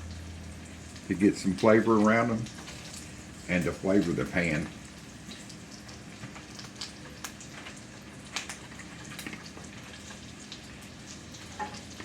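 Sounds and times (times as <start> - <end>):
sausage sizzling in a skillet: 0.0 - 12.0.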